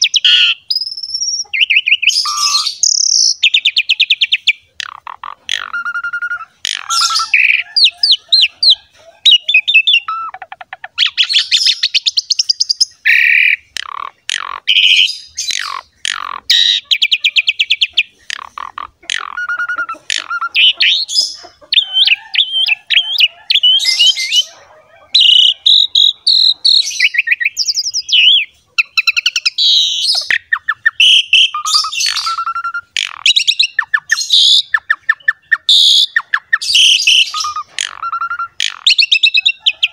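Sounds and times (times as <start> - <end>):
myna bird singing: 0.0 - 39.9.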